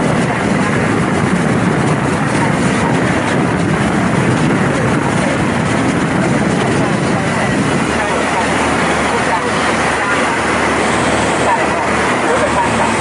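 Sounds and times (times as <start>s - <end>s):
motorboat engine running: 0.0s - 13.0s
rush of wind and water: 0.0s - 13.0s.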